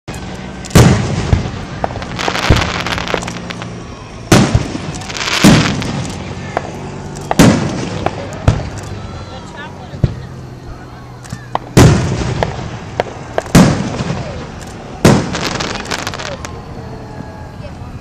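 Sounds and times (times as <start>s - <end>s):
fireworks booming: 0.1s - 8.8s, 9.9s - 10.6s, 11.3s - 17.4s
fireworks crackling and popping: 0.1s - 17.4s.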